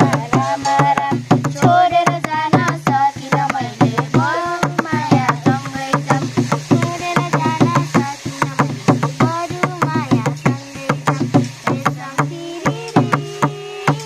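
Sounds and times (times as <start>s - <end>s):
hand drum strokes: 0.0s - 14.0s
person singing: 0.0s - 14.0s.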